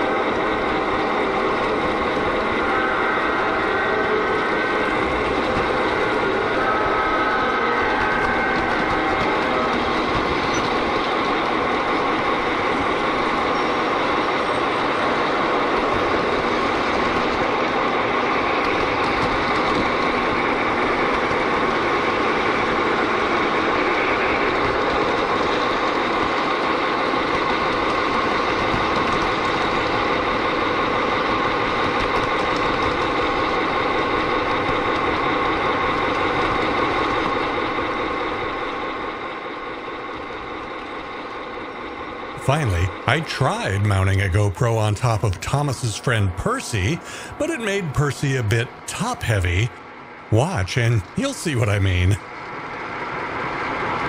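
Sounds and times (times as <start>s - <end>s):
wheel noise on track: 0.0s - 42.4s, 52.2s - 54.0s.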